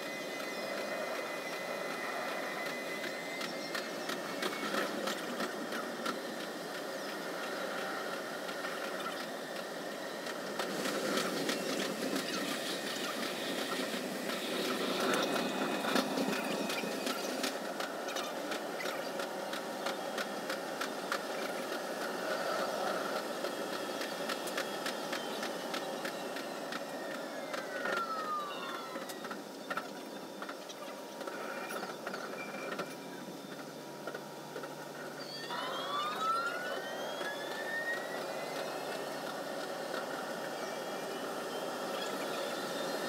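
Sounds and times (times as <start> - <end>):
train motor whine: 0.0 - 43.0
train running noise: 0.0 - 43.0.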